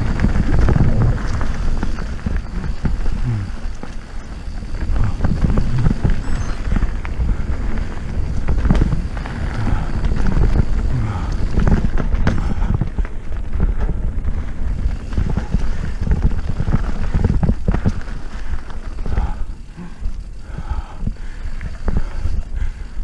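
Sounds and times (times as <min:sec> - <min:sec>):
bike knocks and rattles: 0:00.0 - 0:19.5
wind buffeting microphone: 0:00.0 - 0:23.0.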